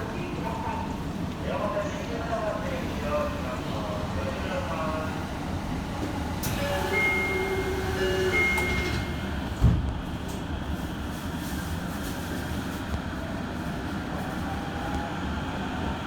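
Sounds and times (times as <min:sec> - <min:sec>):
subway train running: 0:00.0 - 0:16.0.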